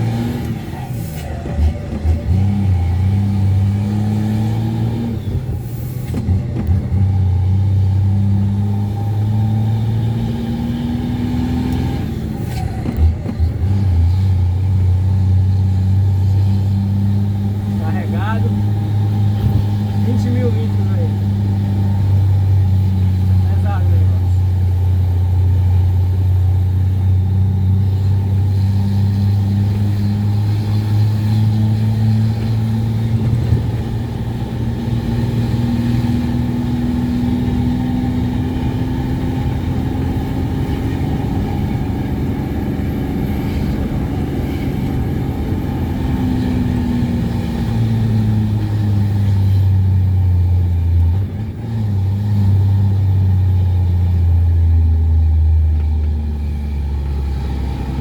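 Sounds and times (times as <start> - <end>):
truck diesel engine pulling hard: 0.0 - 58.0.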